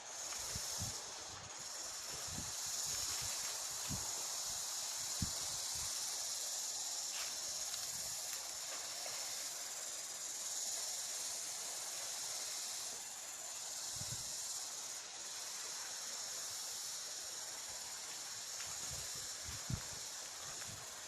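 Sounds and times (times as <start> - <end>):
insects high-pitched hiss: 0.0 - 21.0.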